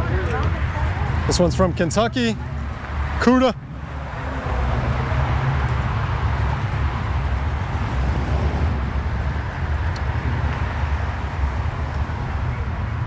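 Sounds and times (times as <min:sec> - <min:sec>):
car engines rumbling: 0:00.0 - 0:13.0
outdoor noise: 0:00.0 - 0:13.0.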